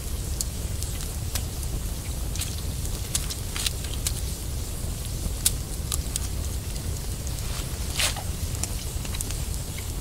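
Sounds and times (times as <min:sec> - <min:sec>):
campfire crackling and popping: 0:00.0 - 0:10.0
low fire rumble: 0:00.0 - 0:10.0.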